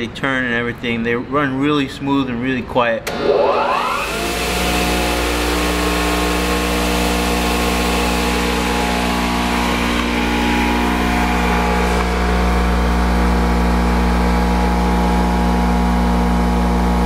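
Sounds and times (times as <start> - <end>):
grinder motor humming: 3.1 - 17.0.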